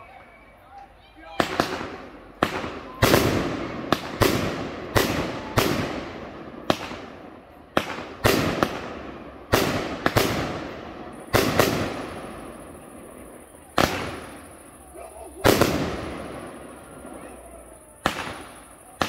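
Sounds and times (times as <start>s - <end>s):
fireworks bursting with echo: 1.3s - 19.0s.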